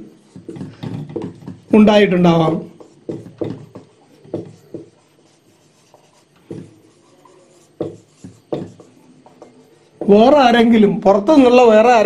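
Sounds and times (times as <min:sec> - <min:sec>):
marker writing on whiteboard: 0:00.0 - 0:11.5.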